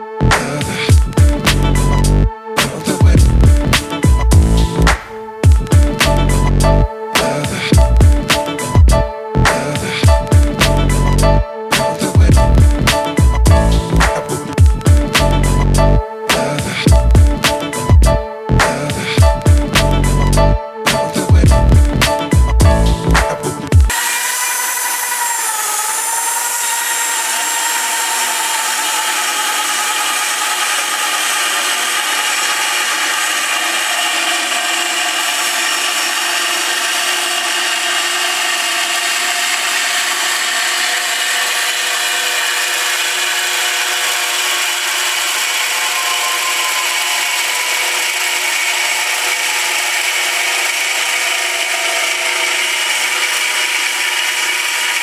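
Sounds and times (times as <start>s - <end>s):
band saw running and sawing: 0.0s - 55.0s.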